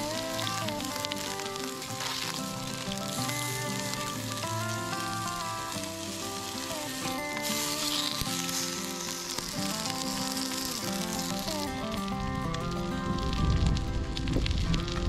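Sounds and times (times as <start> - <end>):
background music: 0.0 - 15.0
meat sizzling in oil: 0.0 - 15.0.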